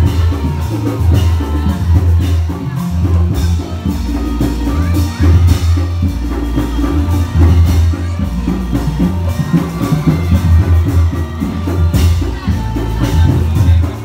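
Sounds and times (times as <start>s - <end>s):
drums and percussion: 0.0s - 14.0s.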